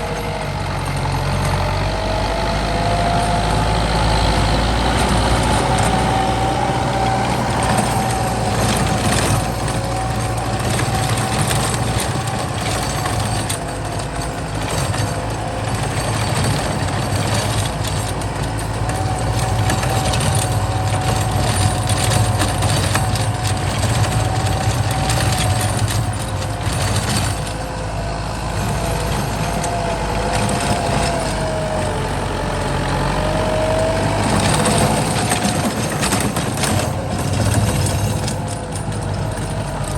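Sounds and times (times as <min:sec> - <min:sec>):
engine whine: 0:00.0 - 0:39.9
tractor diesel engine under load: 0:00.0 - 0:39.9.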